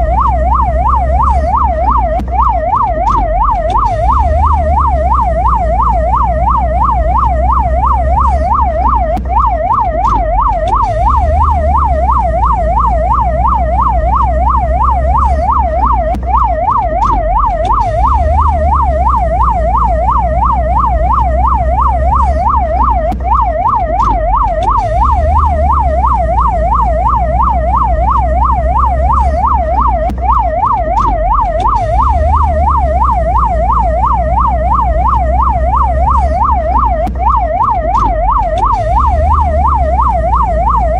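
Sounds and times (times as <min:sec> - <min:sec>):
ambulance siren sweeping: 0:00.0 - 0:40.9.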